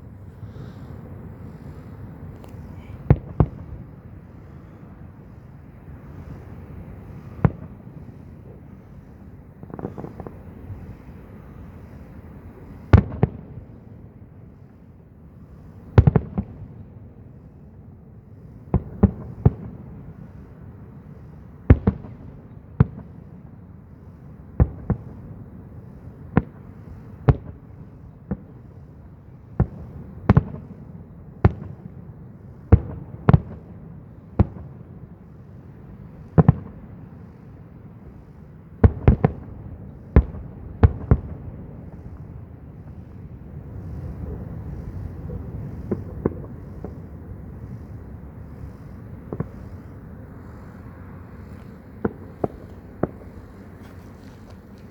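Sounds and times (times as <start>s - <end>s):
fireworks bursting with sharp bangs: 0.0s - 14.0s, 15.4s - 17.0s, 18.4s - 54.9s.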